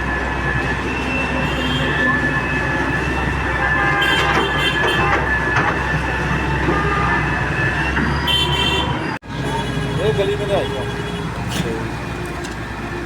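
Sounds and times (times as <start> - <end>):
excavator engine droning: 0.0 - 13.0
metallic squeals and clanks: 0.1 - 13.0.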